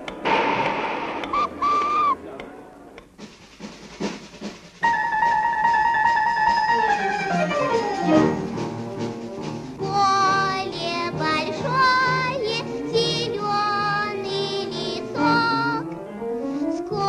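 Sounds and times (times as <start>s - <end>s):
light instrumental backing: 2.4s - 17.0s.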